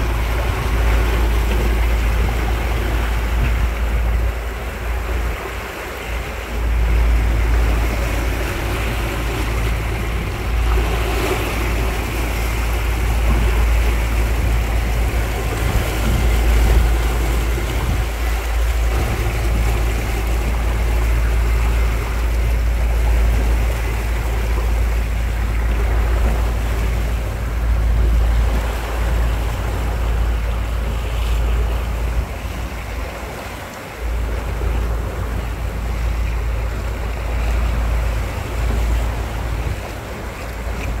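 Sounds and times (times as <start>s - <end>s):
deep engine rumble: 0.0s - 41.0s
sea rushing past boat: 0.0s - 41.0s.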